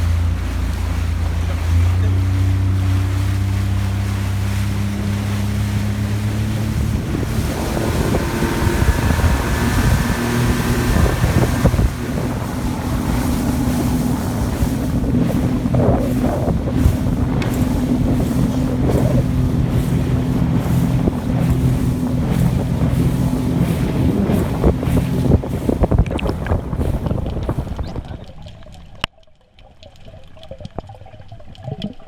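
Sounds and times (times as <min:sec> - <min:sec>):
wind buffeting microphone: 0:00.0 - 0:28.3
outboard motor running: 0:00.0 - 0:28.5.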